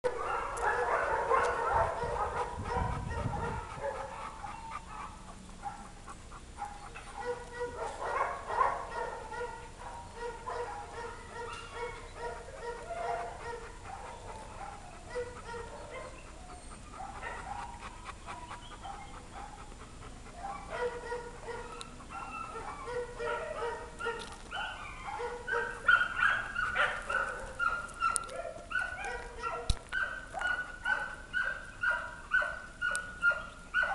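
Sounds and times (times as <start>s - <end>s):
dogs barking: 0.1s - 33.9s.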